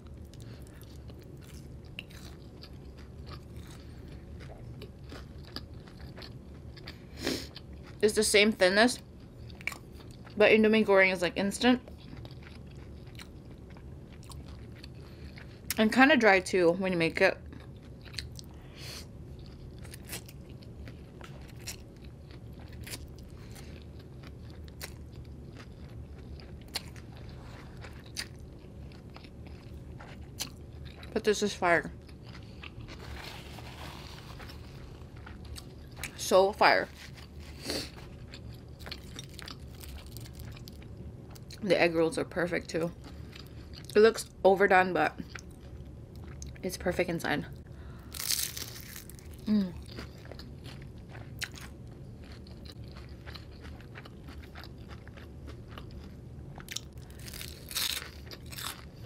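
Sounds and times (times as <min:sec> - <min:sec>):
chewing food: 0:00.0 - 0:08.0, 0:09.0 - 0:10.4, 0:11.8 - 0:15.9, 0:17.4 - 0:41.6, 0:42.8 - 0:44.0, 0:45.1 - 0:46.6, 0:47.6 - 0:59.0.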